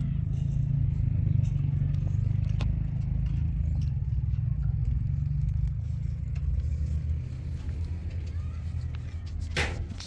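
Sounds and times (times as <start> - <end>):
engine running low rumble: 0.0 - 10.0
light clicks and clatter: 0.2 - 10.0.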